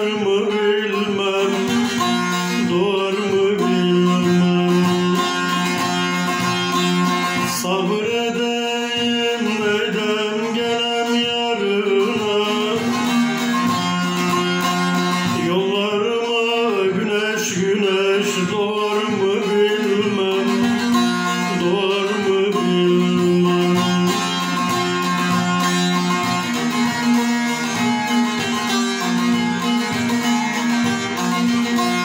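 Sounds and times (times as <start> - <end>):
long-necked lute plucked melody: 0.0 - 32.0.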